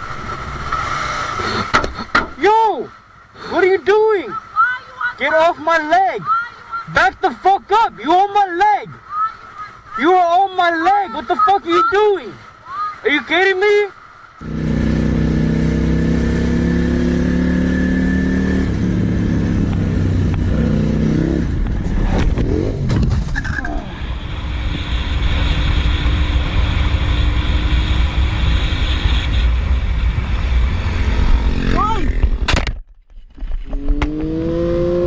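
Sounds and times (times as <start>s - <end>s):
road and wind noise: 0.0s - 35.0s.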